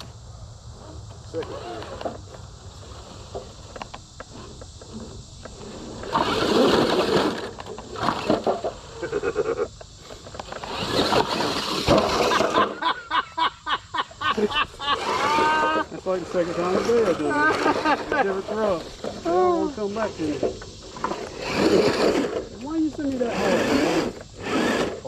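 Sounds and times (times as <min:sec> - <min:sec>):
toy car tyres spinning in dirt: 0:00.0 - 0:13.2, 0:14.4 - 0:25.0.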